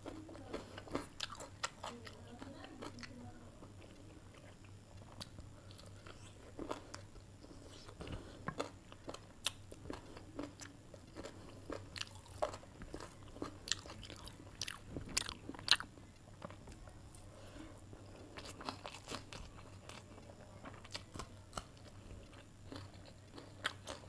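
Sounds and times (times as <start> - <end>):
wet chewing: 0.0 - 3.1, 3.8 - 16.9, 18.1 - 24.0.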